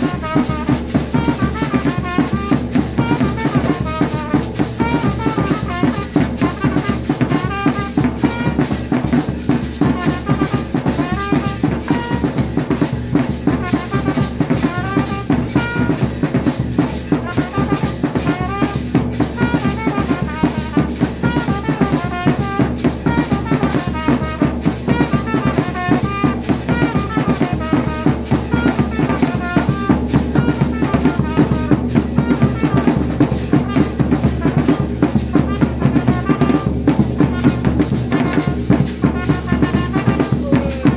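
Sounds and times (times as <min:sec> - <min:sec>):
bass drum and drums beating: 0:00.0 - 0:40.9.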